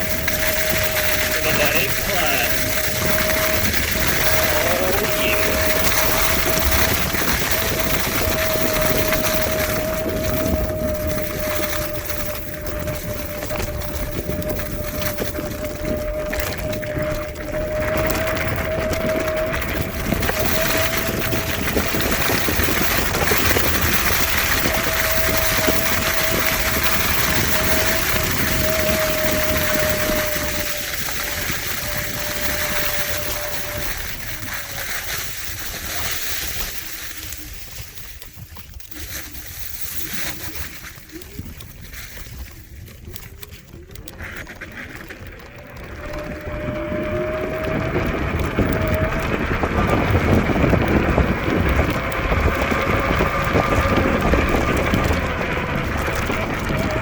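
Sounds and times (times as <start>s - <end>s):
electric scooter motor whining: 0.0s - 57.0s
wind rush on microphone: 0.0s - 57.0s.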